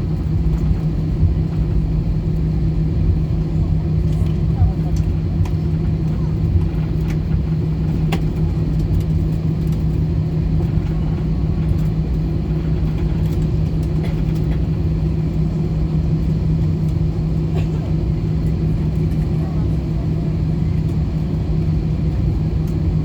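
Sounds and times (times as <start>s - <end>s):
airplane cabin hum: 0.0s - 23.0s.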